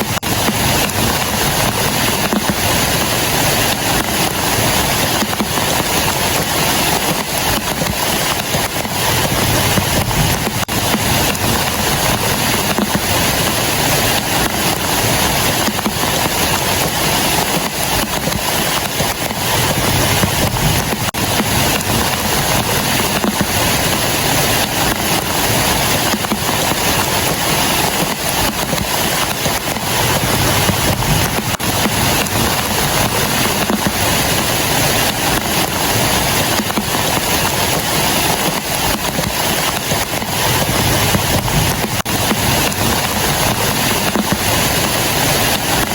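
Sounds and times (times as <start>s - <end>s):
heavy rain on a plastic tarp: 0.0s - 45.9s.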